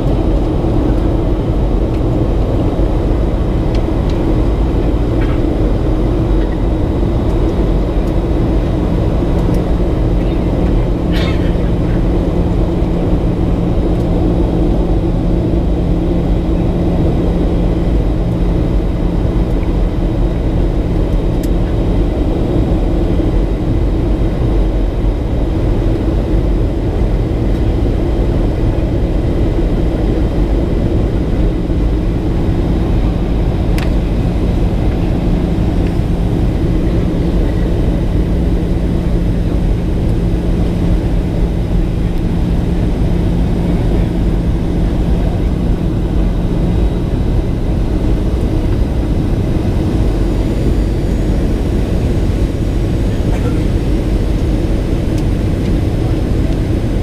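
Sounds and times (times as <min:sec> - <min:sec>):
airplane cabin airflow rumble: 0:00.0 - 0:57.0
low engine hum: 0:00.0 - 0:57.0.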